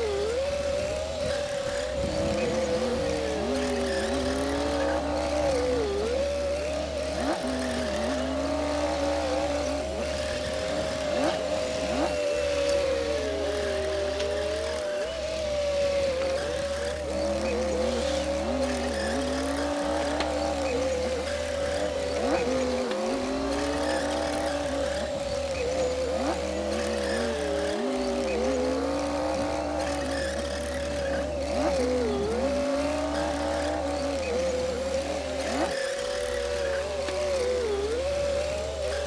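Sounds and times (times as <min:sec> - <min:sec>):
bulldozer diesel engine: 0:00.0 - 0:39.0.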